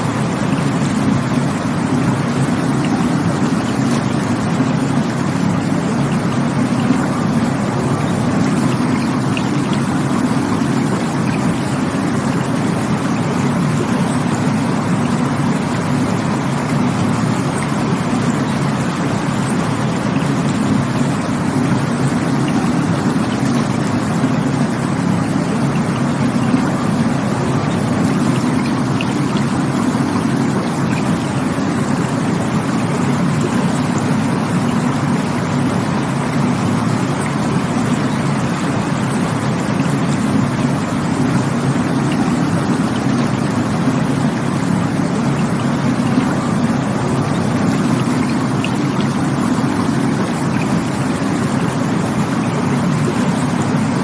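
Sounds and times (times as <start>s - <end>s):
rushing stream water: 0.0s - 54.0s.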